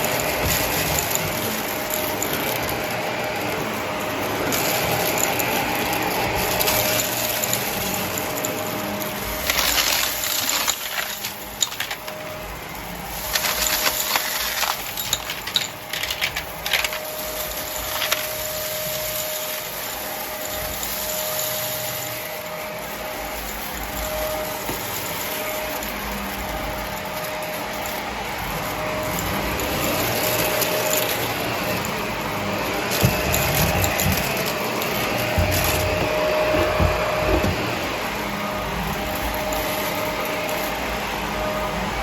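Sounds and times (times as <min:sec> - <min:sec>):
vacuum cleaner motor whine: 0:00.0 - 0:42.0.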